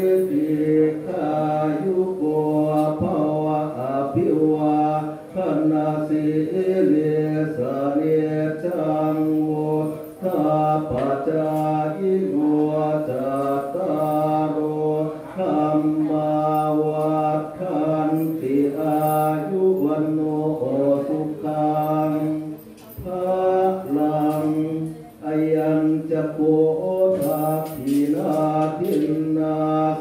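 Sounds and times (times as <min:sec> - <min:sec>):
monks chanting in unison: 0:00.0 - 0:30.0.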